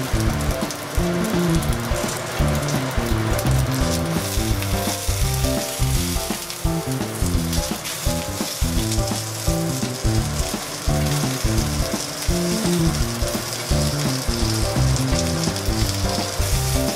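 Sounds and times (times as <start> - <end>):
background music: 0.0 - 16.9
dumplings sizzling in a pan: 0.0 - 16.9.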